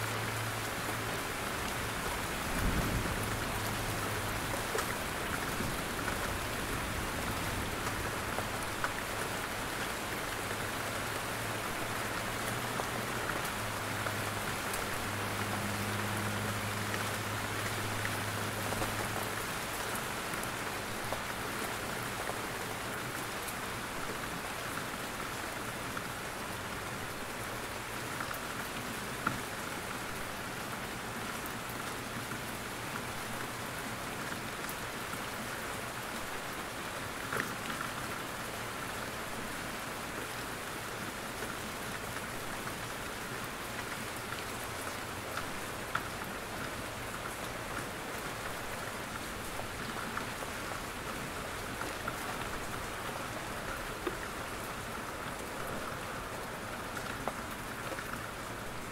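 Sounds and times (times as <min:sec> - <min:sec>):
rain falling through trees: 0:00.0 - 0:58.9.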